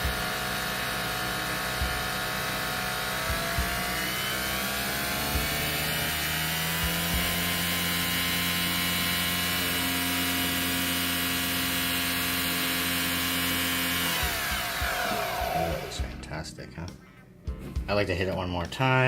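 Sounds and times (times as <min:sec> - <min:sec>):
coffee machine motor whine: 0:00.0 - 0:16.2.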